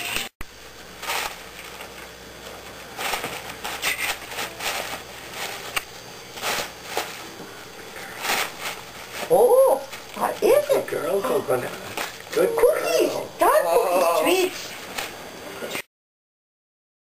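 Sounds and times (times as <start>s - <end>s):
wrapping paper rustling and tearing: 0.8s - 15.2s.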